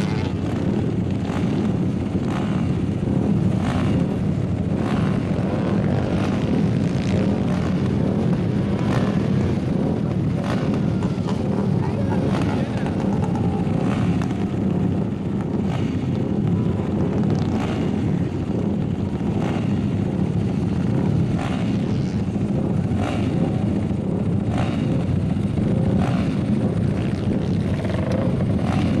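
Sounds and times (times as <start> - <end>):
motorcycle engines racing: 0.0 - 29.0.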